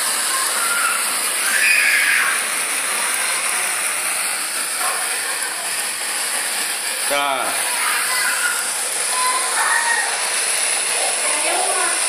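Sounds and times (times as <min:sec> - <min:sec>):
gas burner flame hissing: 0:00.0 - 0:12.0.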